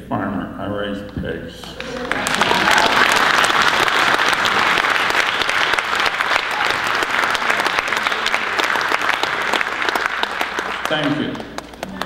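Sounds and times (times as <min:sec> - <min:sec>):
audience applause: 0:01.7 - 0:12.0.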